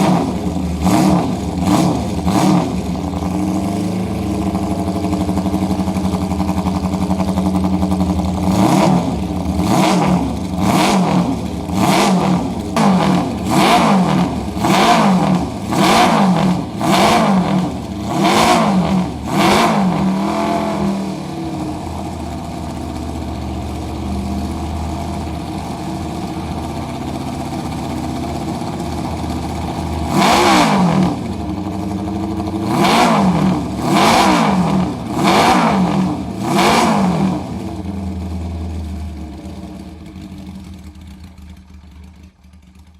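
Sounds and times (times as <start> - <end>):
motorcycle engine revving and idling: 0.0 - 42.9.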